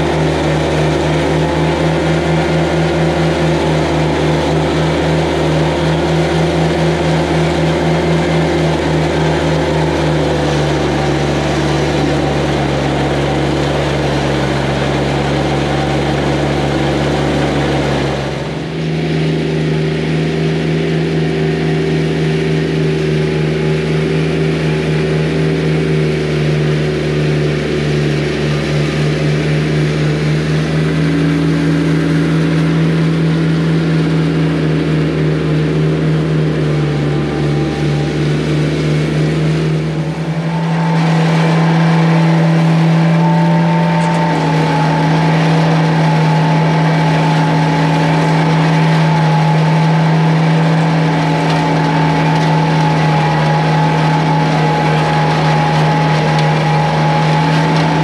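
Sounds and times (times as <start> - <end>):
straw blower blowing straw: 0.0 - 58.0
tractor engine running: 0.0 - 58.0.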